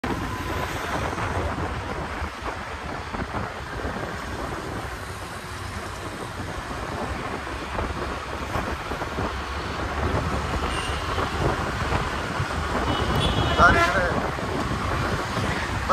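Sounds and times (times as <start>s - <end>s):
road and engine noise: 0.0s - 15.9s
wind buffeting microphone: 0.0s - 15.9s.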